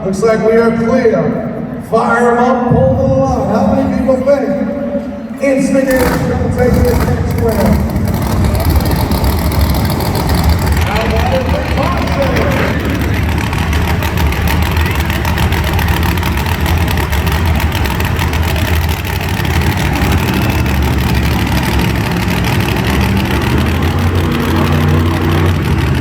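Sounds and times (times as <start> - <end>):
truck engines idling: 0.0 - 26.0.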